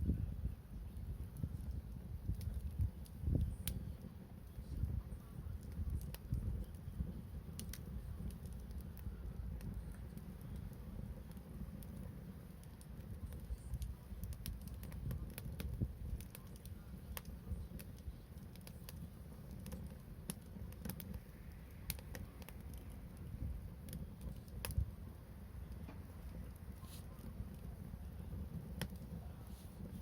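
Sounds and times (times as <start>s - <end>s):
bonfire crackling and popping: 0.0s - 30.0s.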